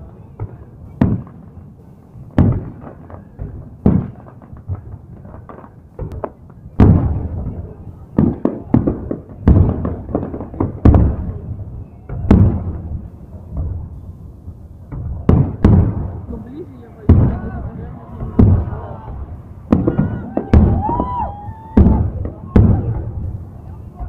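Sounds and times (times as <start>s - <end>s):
crackling firework pops: 0.0s - 24.0s
firework bangs with echo: 0.0s - 24.0s.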